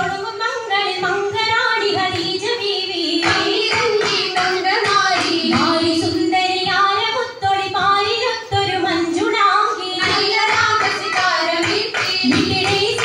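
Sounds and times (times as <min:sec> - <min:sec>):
rhythmic hand-clapping: 0:00.0 - 0:08.7, 0:09.8 - 0:13.0.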